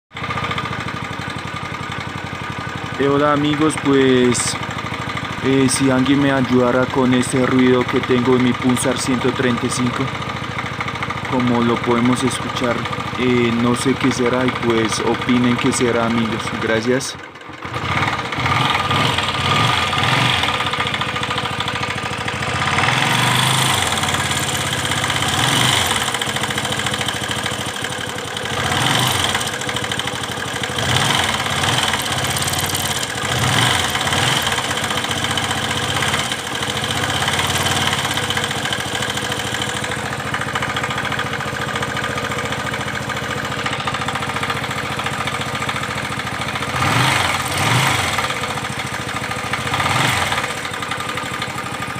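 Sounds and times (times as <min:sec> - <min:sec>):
motorcycle engine idling and revving: 0:00.1 - 0:51.9
strange engine noise: 0:00.1 - 0:51.9.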